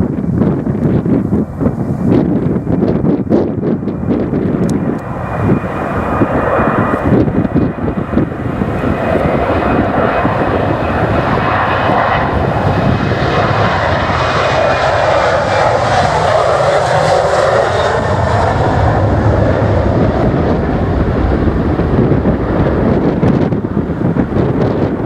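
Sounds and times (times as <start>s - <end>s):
jet engines roaring: 0.0s - 25.0s
wind buffeting microphone: 0.0s - 25.0s.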